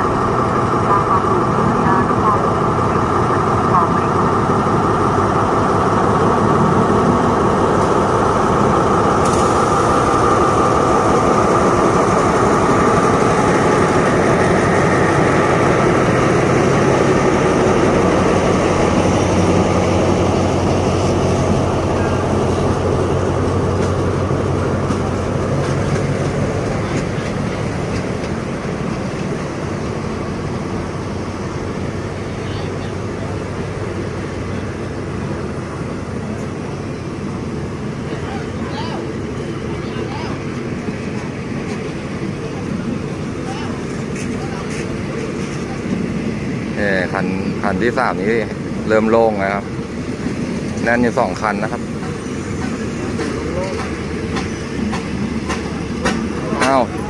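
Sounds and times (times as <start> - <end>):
diesel locomotive engine whining: 0.0 - 57.0.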